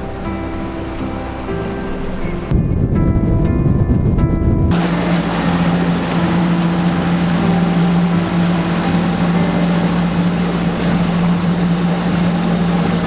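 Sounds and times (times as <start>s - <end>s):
outboard motor droning: 0.0s - 3.4s, 4.4s - 13.0s
water rushing in boat wake: 0.0s - 13.0s.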